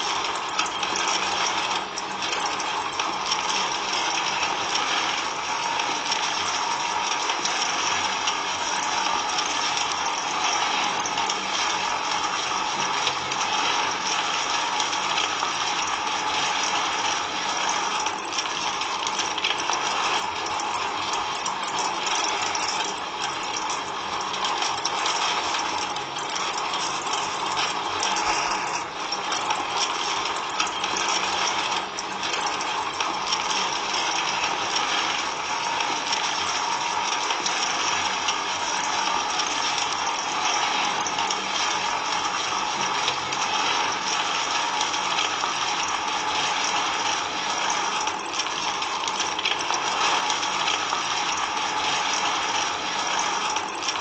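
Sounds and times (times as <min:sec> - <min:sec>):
small electric motor and gears rattling: 0:00.0 - 0:54.0.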